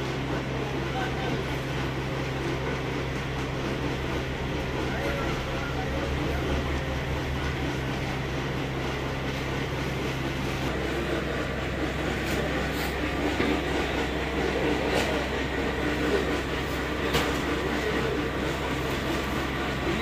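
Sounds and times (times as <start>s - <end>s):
oil press machine humming: 0.0s - 20.0s.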